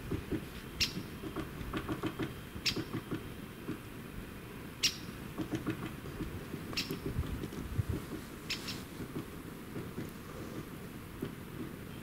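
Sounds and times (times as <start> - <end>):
woodpecker tapping on bark: 0.0 - 3.8, 4.8 - 11.7.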